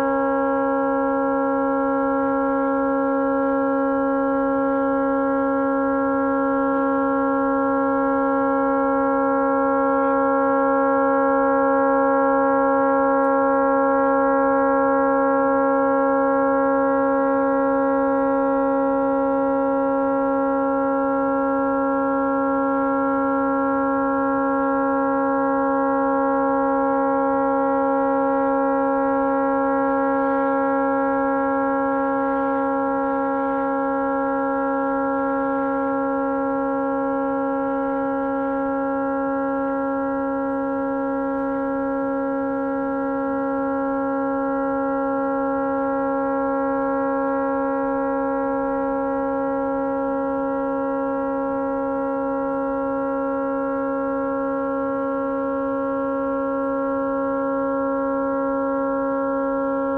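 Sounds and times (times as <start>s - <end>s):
tugboat horn steady note: 0.0s - 59.9s.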